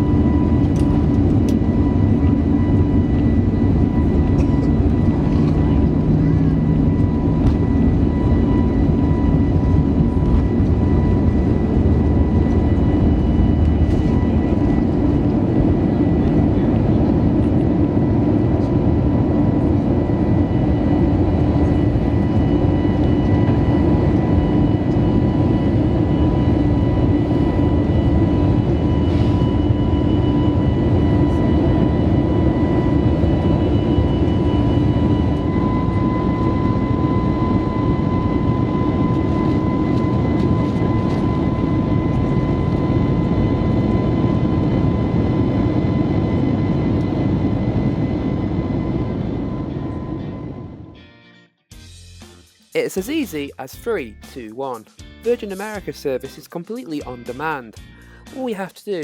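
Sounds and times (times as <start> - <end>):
jet airliner engine and airflow noise: 0.0 - 51.1.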